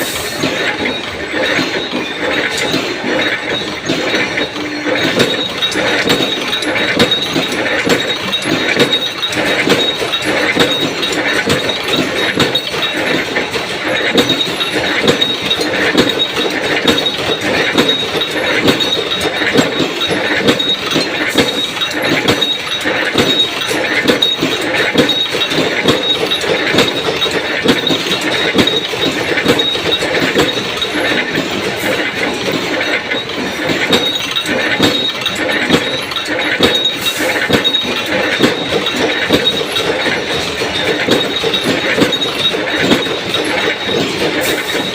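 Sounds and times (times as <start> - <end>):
punch press stamping metal: 0.0 - 44.9.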